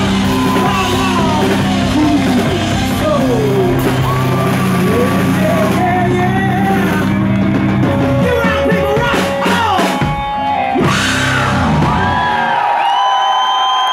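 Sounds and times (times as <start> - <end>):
distorted electric guitar: 0.0 - 12.7
rock band playing live: 0.0 - 12.8
drums: 0.0 - 13.9.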